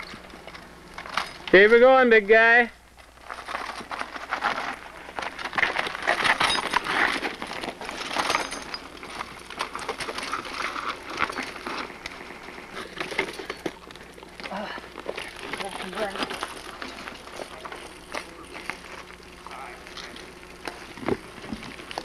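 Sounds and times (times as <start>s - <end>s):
bike tyres rattling over rocks: 0.0s - 22.0s.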